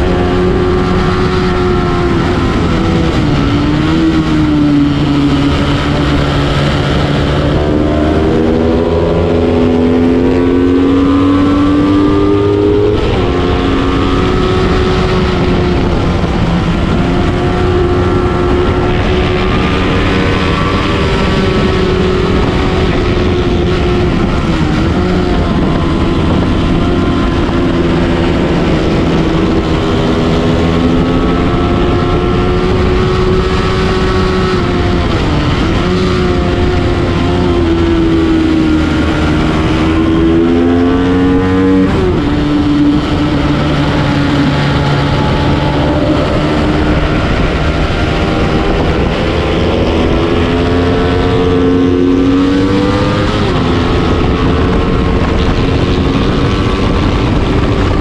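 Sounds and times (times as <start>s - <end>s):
motorcycle engine at high revs: 0.0s - 58.0s
wind rushing over microphone: 0.0s - 58.0s.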